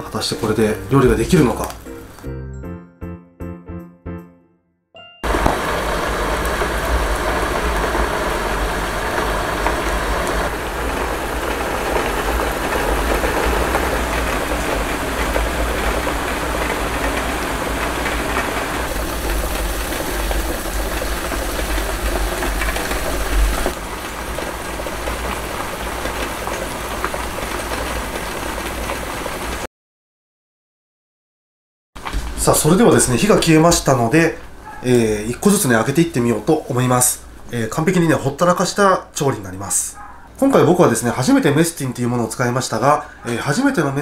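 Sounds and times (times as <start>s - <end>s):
boiling and simmering: 0.0s - 2.3s, 5.2s - 29.7s, 32.0s - 44.0s.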